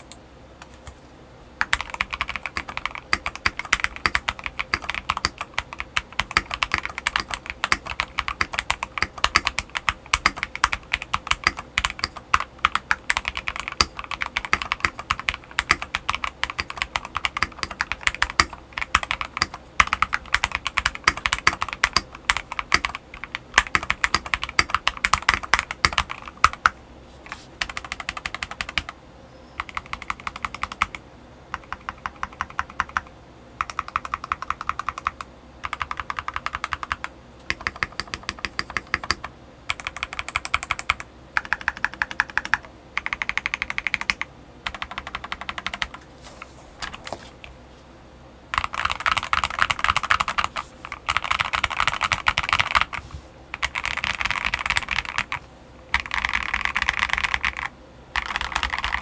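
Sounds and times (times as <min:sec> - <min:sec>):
mechanical keyboard typing: 0:01.6 - 0:26.8, 0:27.6 - 0:29.0, 0:29.6 - 0:46.0, 0:48.5 - 0:59.0.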